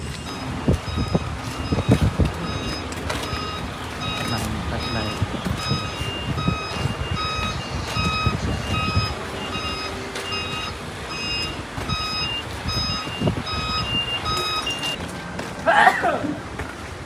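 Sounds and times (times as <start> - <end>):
short high warning beeps: 0.3 - 15.0.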